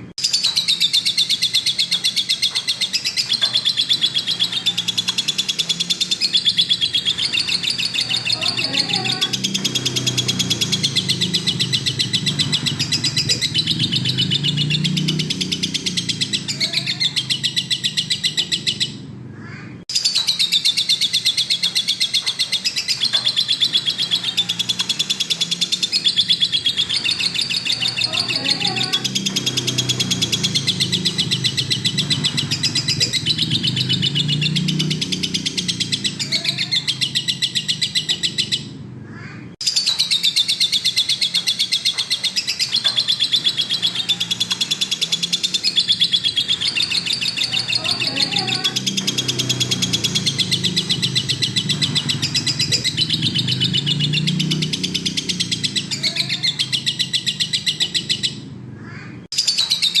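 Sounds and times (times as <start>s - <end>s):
lovebird chirping and trilling: 0.2s - 60.0s.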